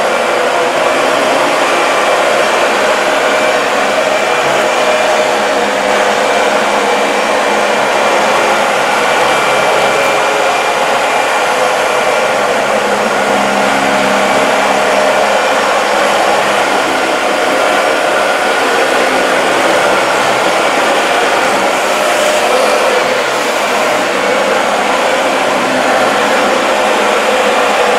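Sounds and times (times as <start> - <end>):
vacuum cleaner running: 0.0 - 27.9.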